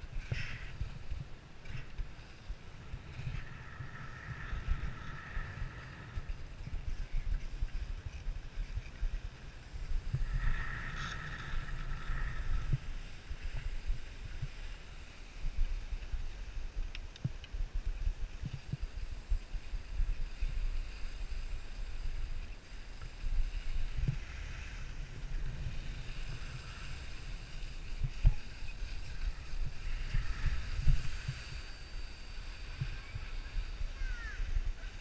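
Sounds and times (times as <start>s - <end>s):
skis sliding on snow: 0.0s - 16.7s, 17.3s - 35.0s
wind buffeting microphone: 0.0s - 35.0s.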